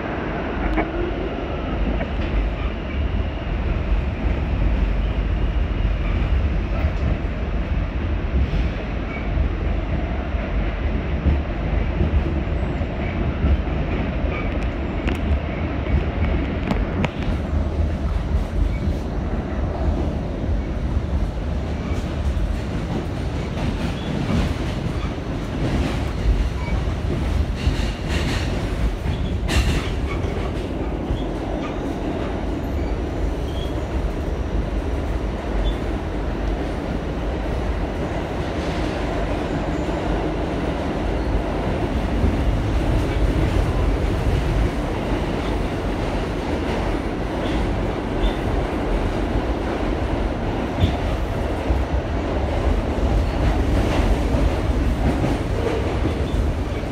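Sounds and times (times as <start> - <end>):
subway wheels rumbling: 0.0 - 56.9.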